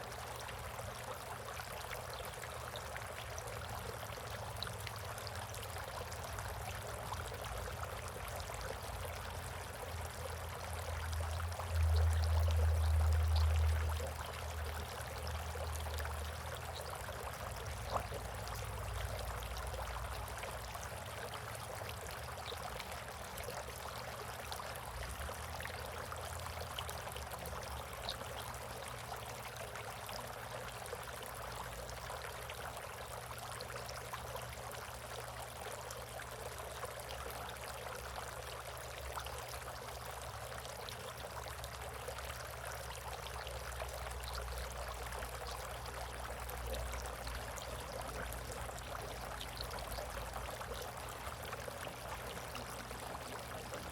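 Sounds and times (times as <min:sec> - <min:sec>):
water trickling and splashing: 0:00.0 - 0:53.9.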